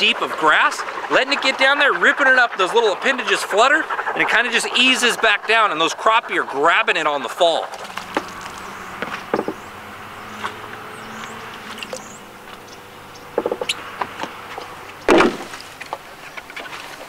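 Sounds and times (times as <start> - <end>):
outdoor ambience: 0.0 - 17.0.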